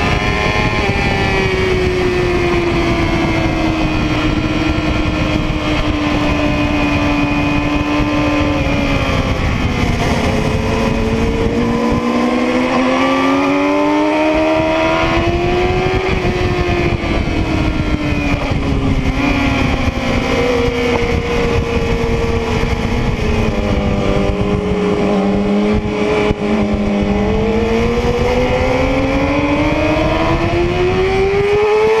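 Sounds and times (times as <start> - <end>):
motorcycle engine at racing speed: 0.0 - 32.0
wind noise: 0.0 - 32.0.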